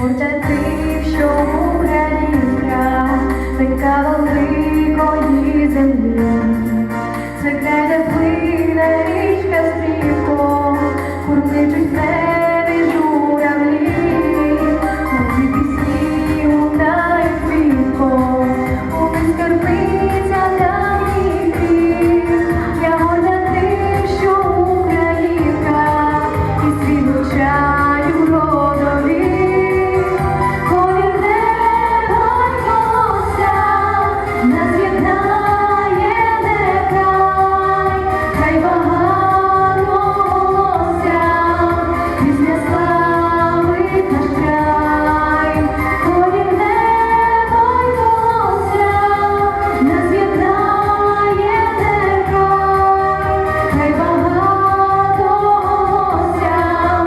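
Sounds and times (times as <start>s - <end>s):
women singing: 0.0s - 57.0s.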